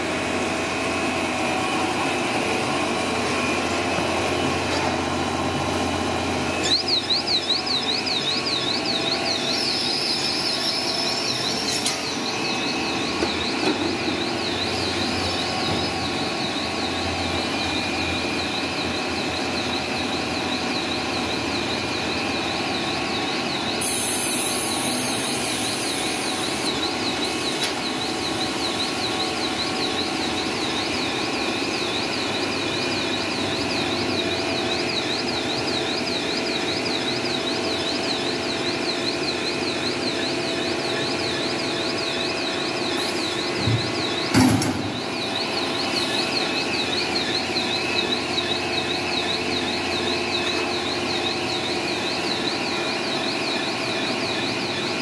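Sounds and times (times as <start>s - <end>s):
machine drone with warbling high tone: 0.0s - 55.0s.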